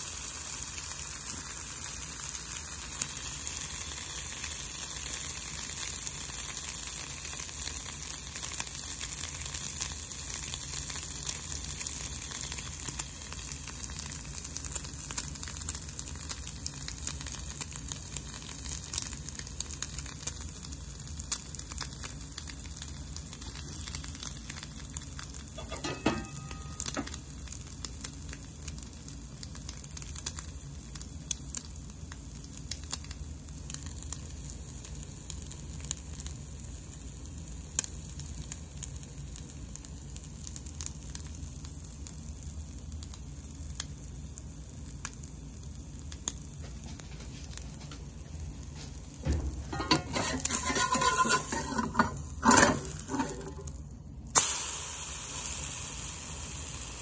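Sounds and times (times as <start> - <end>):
toast sizzling in a pan: 0.0 - 57.0.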